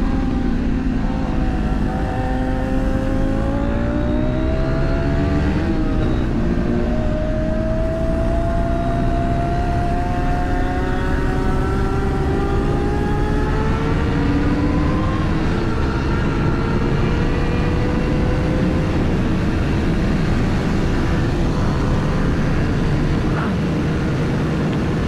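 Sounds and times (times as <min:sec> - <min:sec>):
racing engine under power: 0:00.0 - 0:25.0.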